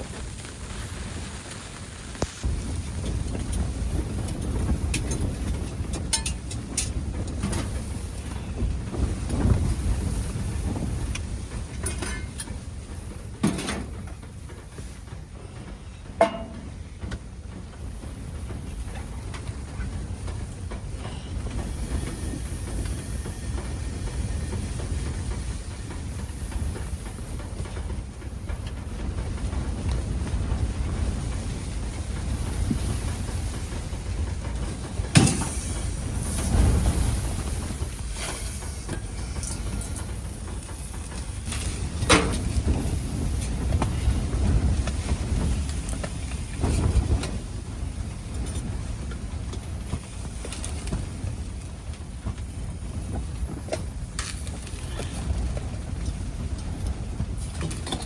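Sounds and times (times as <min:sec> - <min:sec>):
wind rumbling against a tent: 0:00.0 - 0:58.0.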